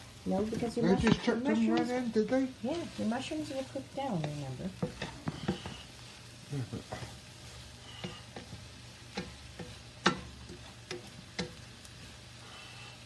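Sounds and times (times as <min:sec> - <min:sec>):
faint sizzle: 0:00.0 - 0:13.0
utensil scraping a wok: 0:00.0 - 0:13.0.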